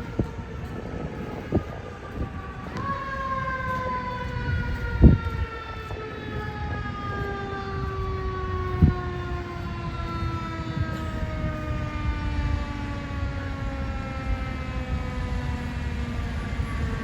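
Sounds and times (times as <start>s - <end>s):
fire engine siren winding down: 0.0s - 17.0s.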